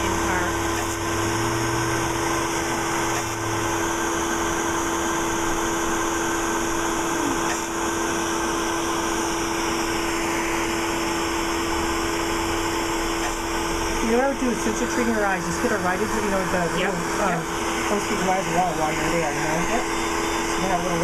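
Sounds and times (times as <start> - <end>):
machine whirring hum: 0.0 - 21.0.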